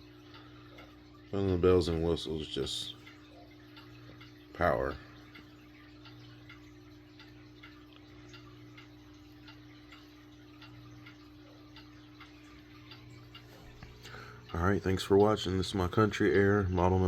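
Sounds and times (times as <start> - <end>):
faint regular ticking: 0.0 - 17.0
fan motor hum: 0.0 - 17.0.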